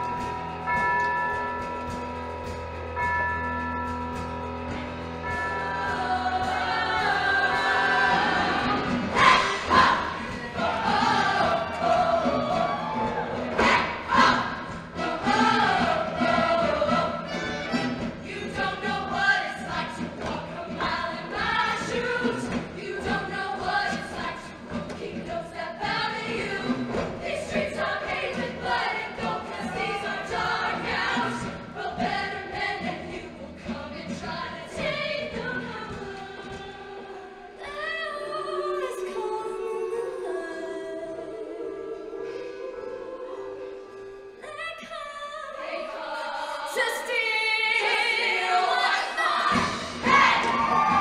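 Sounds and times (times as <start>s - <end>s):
choir singing: 4.6s - 51.0s.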